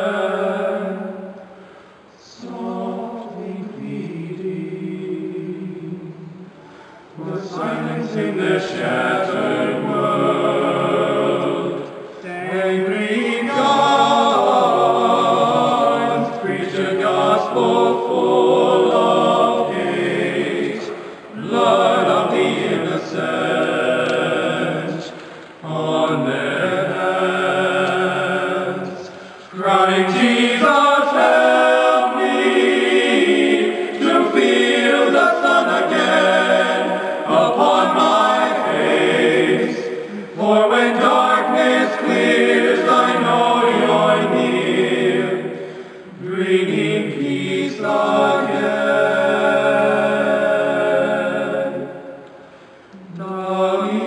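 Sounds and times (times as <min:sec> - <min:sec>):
male ensemble singing a cappella: 0:00.0 - 0:01.4, 0:02.2 - 0:54.0.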